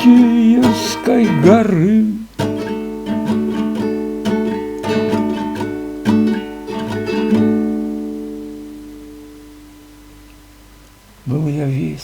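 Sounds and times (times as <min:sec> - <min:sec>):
acoustic guitar chords: 0:00.0 - 0:10.8.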